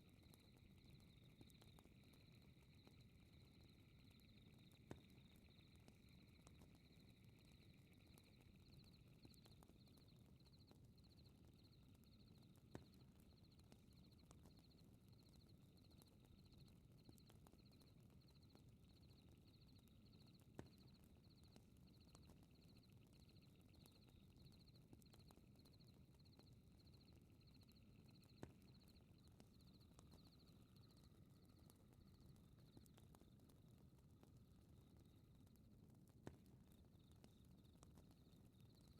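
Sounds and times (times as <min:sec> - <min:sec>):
fireplace crackle: 0:00.0 - 0:38.9
low rumble of fire: 0:00.0 - 0:38.9.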